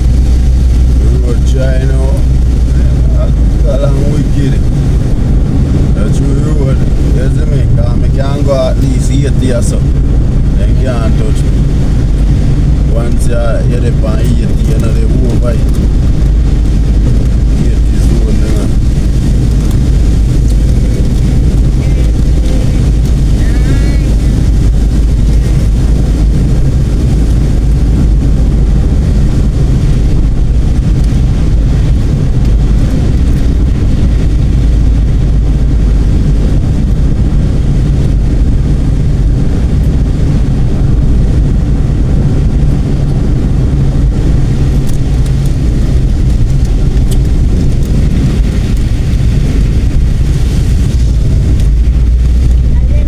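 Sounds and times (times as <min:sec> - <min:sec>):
fast vehicle rumble: 0:00.0 - 0:53.0.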